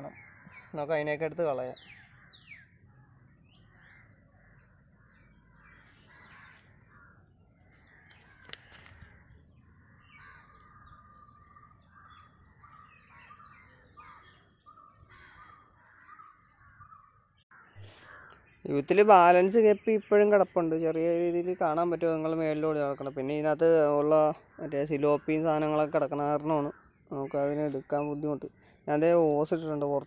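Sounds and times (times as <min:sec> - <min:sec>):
bird calls: 0:00.0 - 0:30.0.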